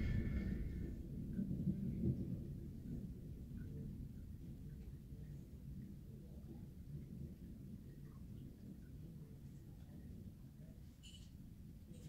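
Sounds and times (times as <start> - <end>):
faint rainstorm rumble: 0.0 - 12.0.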